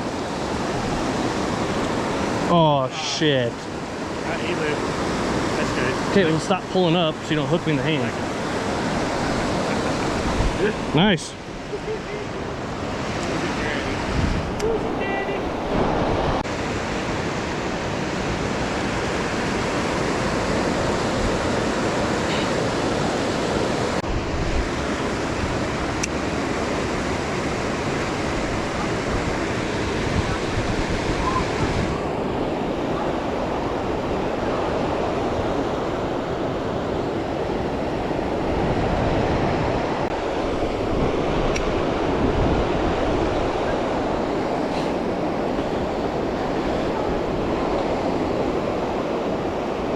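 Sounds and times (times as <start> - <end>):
wind buffeting microphone: 3.6 - 49.9.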